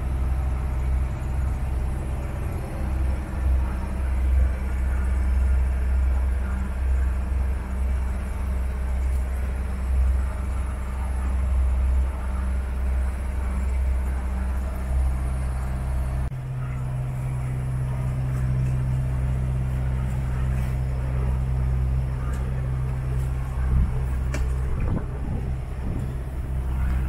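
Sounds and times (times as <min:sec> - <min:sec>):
motorboat engine humming: 0:00.0 - 0:27.0.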